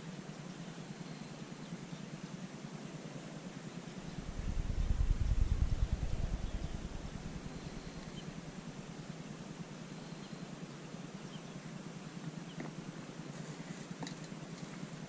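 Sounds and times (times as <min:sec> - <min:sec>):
faint river hiss: 0:00.0 - 0:15.0.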